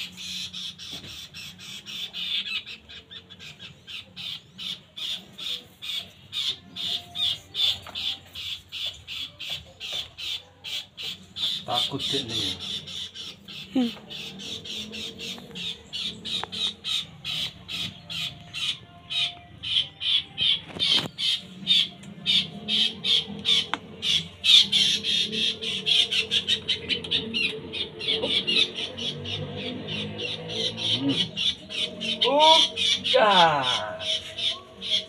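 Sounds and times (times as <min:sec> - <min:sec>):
bird giving harsh calls: 0:00.0 - 0:35.0.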